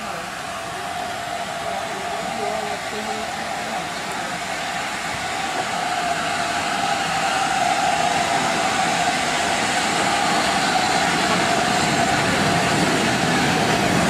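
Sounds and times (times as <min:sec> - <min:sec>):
train rushing noise with whine: 0:00.0 - 0:14.0.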